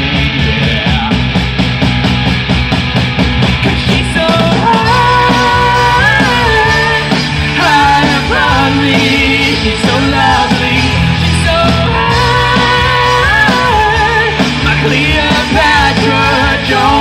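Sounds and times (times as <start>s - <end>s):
bending melody line: 0.0s - 17.0s
live rock band playing: 0.0s - 17.0s.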